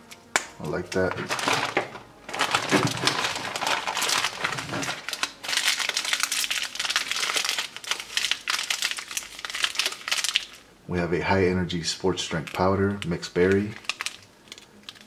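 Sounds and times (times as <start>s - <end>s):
plastic packaging crinkling: 0.6s - 10.6s, 12.2s - 15.0s.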